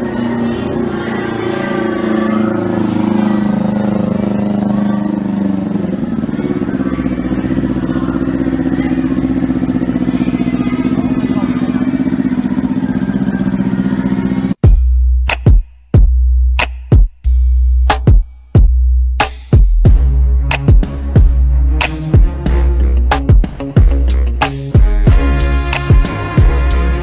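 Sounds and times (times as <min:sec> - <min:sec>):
motorcycle engine running: 0:00.0 - 0:14.9, 0:19.6 - 0:27.0.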